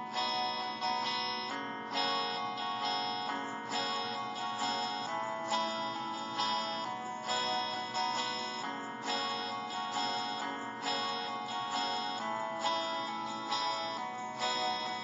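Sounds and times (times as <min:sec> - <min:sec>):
guitar chords strummed: 0:00.0 - 0:15.0.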